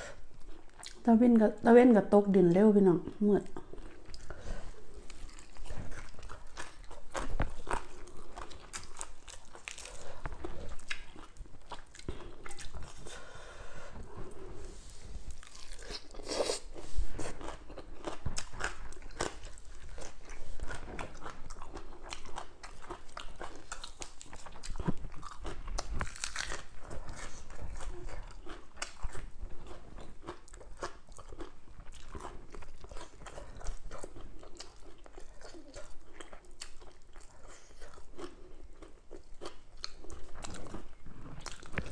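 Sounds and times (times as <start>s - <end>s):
person chewing and crunching food: 0.0s - 1.1s, 3.0s - 41.9s.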